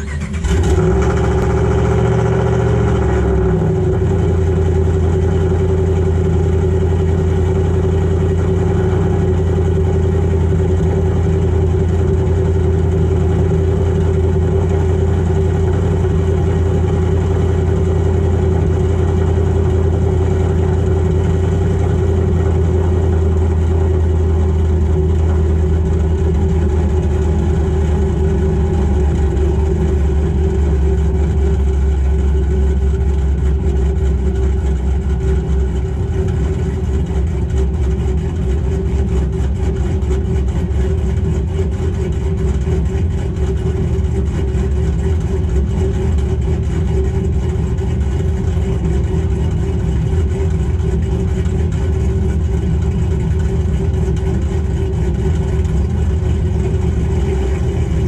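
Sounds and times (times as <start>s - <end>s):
truck engine starting and idling: 0.0s - 58.0s.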